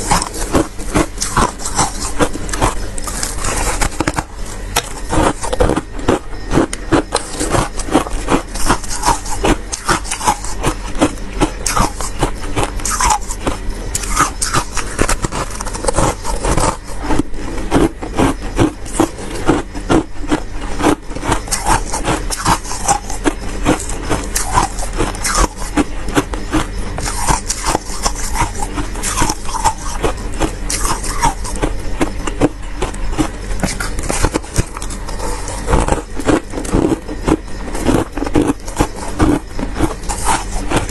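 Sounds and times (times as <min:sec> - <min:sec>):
freezer frost being scraped: 0:00.0 - 0:19.7, 0:20.3 - 0:31.6, 0:33.2 - 0:40.9.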